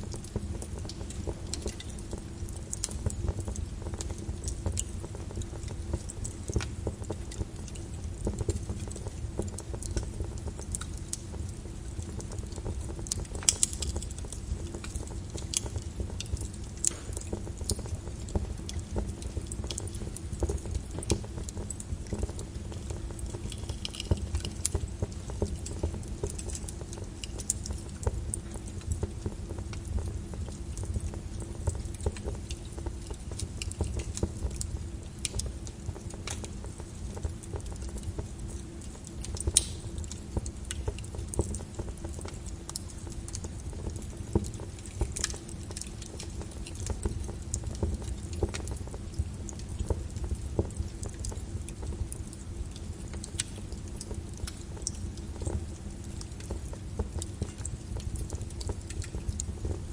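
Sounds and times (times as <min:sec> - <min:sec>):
lava crust crackling: 0:00.0 - 0:59.9.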